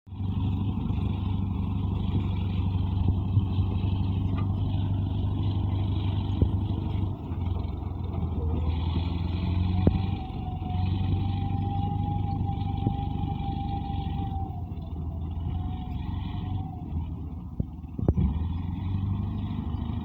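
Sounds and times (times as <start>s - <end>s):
bulldozer diesel engine running: 0.1s - 20.0s.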